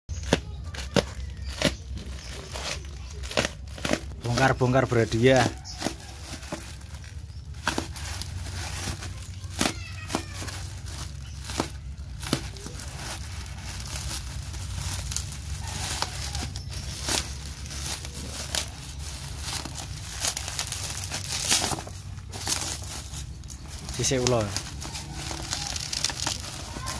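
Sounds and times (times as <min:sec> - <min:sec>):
plastic mailer tearing and crinkling: 0:00.1 - 0:26.9.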